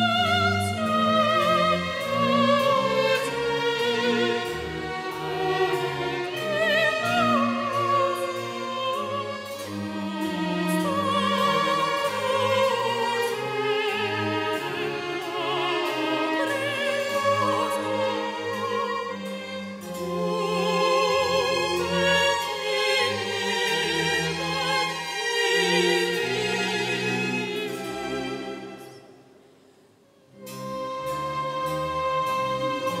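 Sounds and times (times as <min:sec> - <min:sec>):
orchestral accompaniment: 0:00.0 - 0:33.0.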